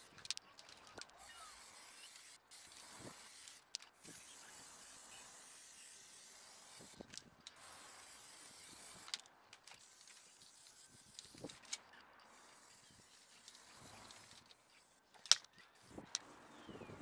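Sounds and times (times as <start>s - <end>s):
spray paint can hissing: 0.0s - 16.3s.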